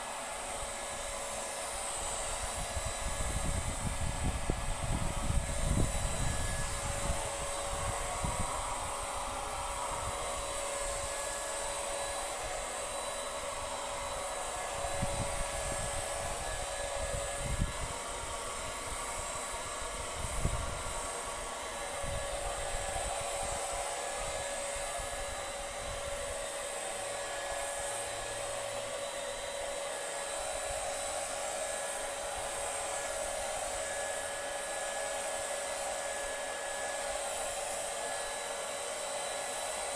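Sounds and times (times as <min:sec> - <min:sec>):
paint sprayer motor whine: 0:00.0 - 0:39.9.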